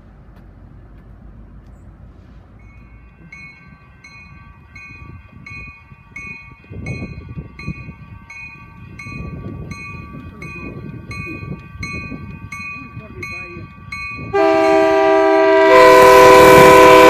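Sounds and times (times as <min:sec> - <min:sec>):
low train rumble: 0:00.0 - 0:17.0
railway bell ringing: 0:02.6 - 0:17.0.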